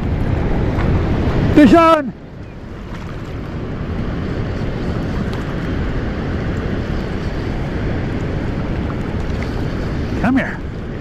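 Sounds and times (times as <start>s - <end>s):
river flowing: 0.0s - 11.0s
wind buffeting microphone: 0.0s - 11.0s.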